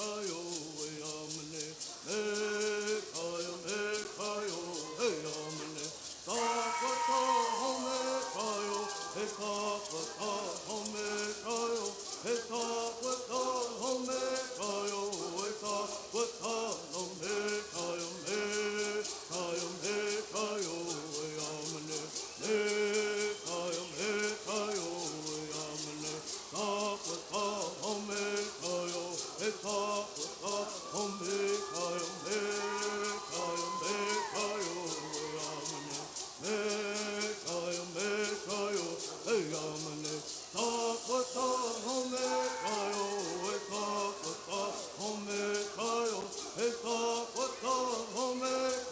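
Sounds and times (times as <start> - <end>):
gourd rattles shaken: 0.0 - 48.9
group of voices chanting: 1.6 - 48.9.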